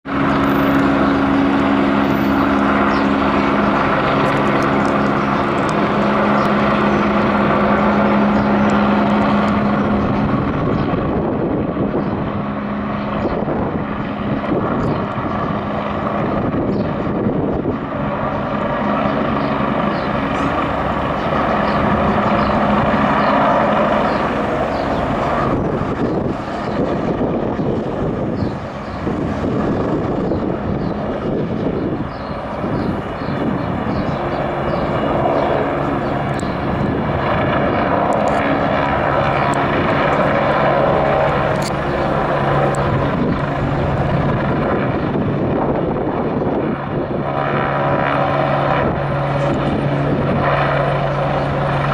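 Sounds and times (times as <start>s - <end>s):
helicopter rotor drone: 0.0s - 51.9s.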